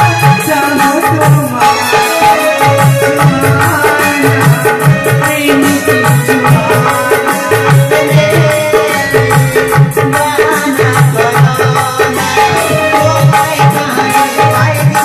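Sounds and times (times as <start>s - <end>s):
dance music with drum beat: 0.0s - 15.0s.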